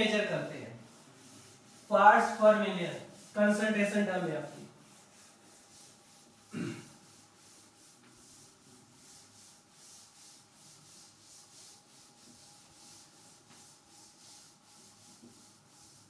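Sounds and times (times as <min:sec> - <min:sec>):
cloth duster wiping chalkboard: 0:00.0 - 0:16.0.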